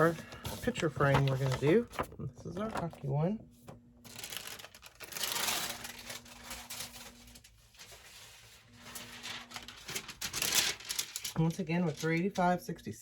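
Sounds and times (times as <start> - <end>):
paper rustling and clicking: 0.0 - 3.0, 4.1 - 12.6.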